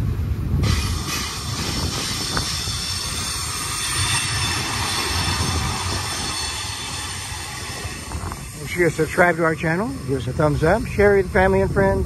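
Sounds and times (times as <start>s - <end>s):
rumble of train wheels: 0.0s - 12.0s
high hiss with wheel squeal: 0.6s - 10.9s.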